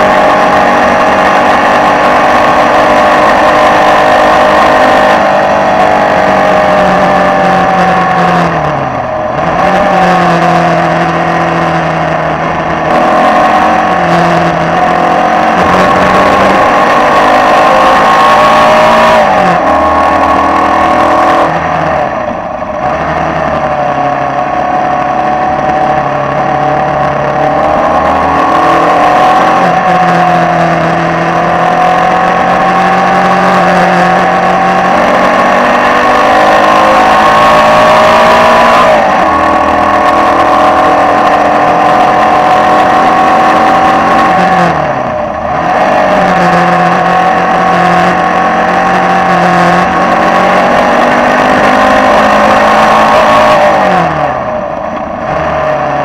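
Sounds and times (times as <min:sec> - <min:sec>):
racing car engine at high revs: 0:00.0 - 0:56.0.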